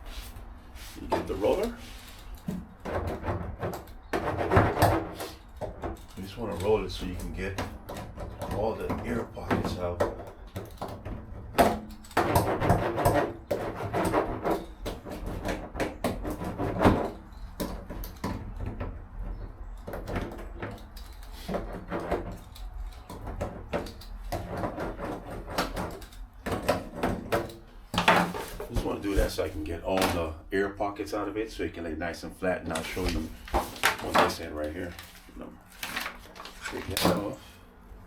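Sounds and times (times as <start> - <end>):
hand roller rubbing on metal: 0.0 - 30.0, 32.4 - 37.6.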